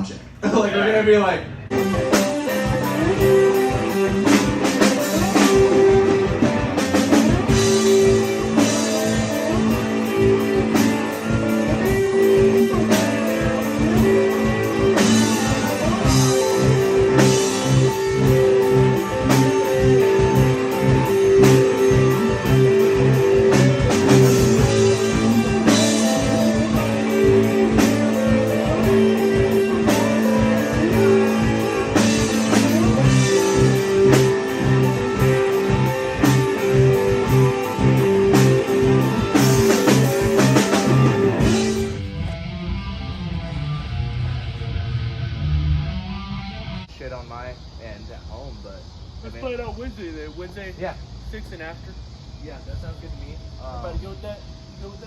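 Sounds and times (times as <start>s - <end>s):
drum kit beat: 0.0s - 45.0s
electric guitar: 1.5s - 46.9s.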